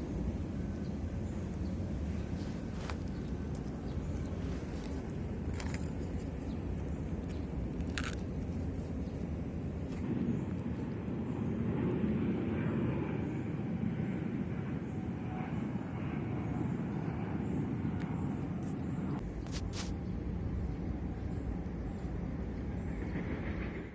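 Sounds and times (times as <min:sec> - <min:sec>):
distant engine drone: 0:00.0 - 0:23.9.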